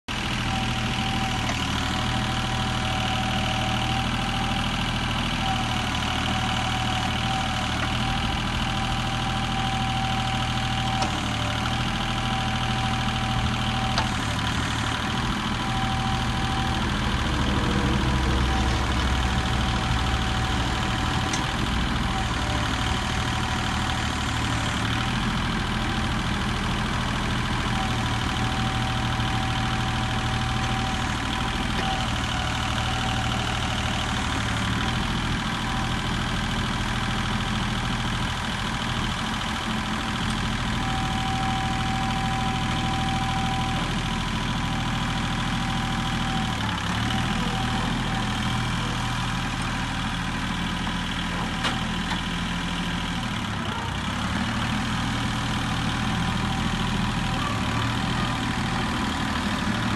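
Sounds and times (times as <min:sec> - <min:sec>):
tractor diesel engine idling: 0:00.1 - 0:59.9.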